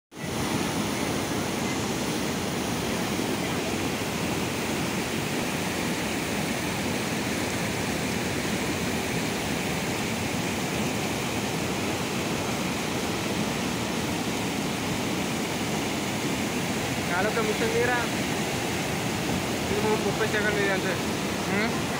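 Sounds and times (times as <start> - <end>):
waterfall rushing: 0.1 - 21.9.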